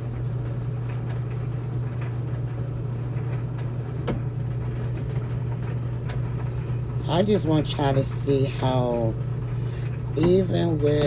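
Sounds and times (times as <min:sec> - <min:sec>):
washing machine humming: 0:00.0 - 0:11.0.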